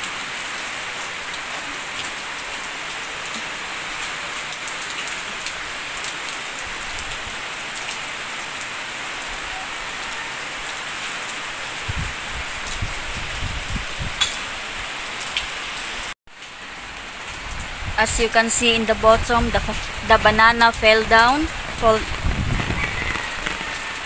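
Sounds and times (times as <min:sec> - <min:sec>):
heavy rain falling: 0:00.0 - 0:24.0
raindrops pattering on surfaces: 0:00.0 - 0:24.0.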